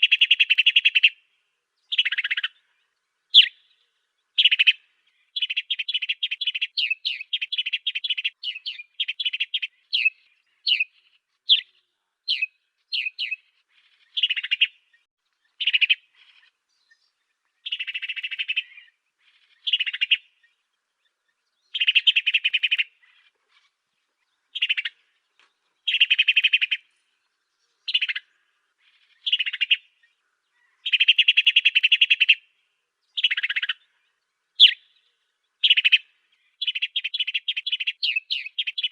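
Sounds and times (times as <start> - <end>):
bird chirping and trilling: 1.8 - 2.7, 3.3 - 3.8, 4.4 - 23.8, 24.4 - 25.2, 25.8 - 32.5, 33.1 - 38.9.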